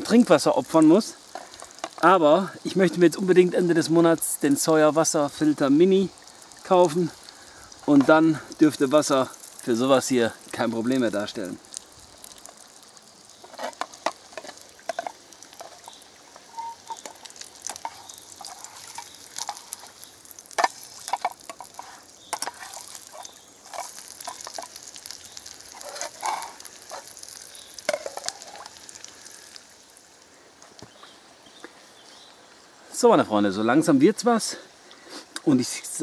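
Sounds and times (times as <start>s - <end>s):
fat popping and crackling: 0.0s - 31.8s
patty sizzling in oil: 0.0s - 32.7s.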